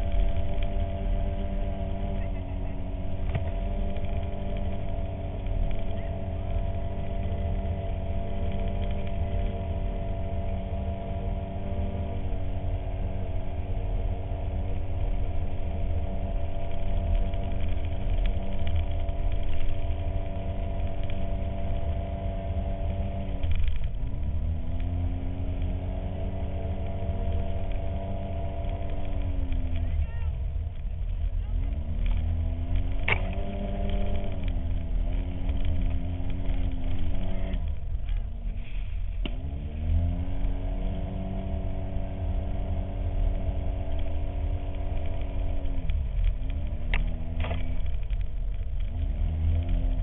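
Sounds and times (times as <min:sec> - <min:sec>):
heavy low rumble: 0:00.0 - 0:50.0
vehicle engine running: 0:00.0 - 0:50.0.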